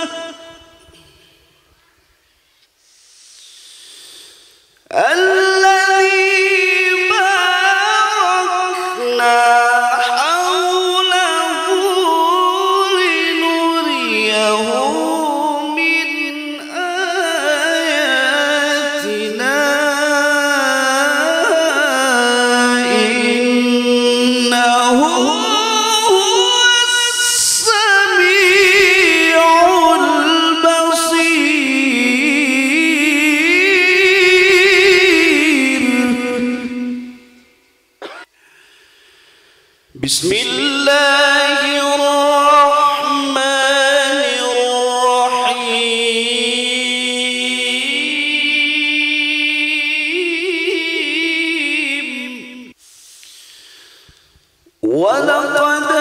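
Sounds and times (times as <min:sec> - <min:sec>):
man reciting melodically: 0:00.0 - 0:01.7, 0:04.8 - 0:38.2, 0:39.9 - 0:52.8, 0:53.5 - 0:56.0.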